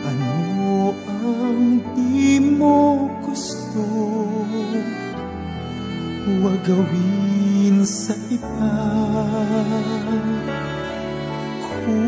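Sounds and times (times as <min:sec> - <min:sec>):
slow sad background music: 0:00.0 - 0:12.0.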